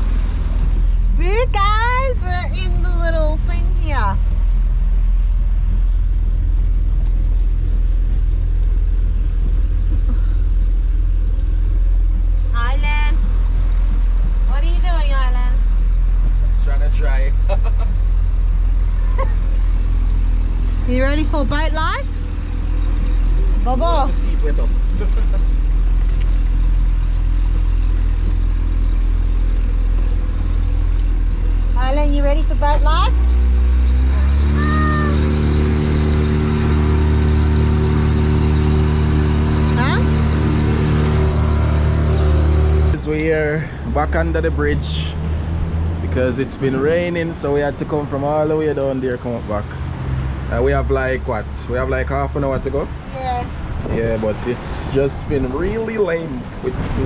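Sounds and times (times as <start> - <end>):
boat motor droning: 0.0 - 52.4.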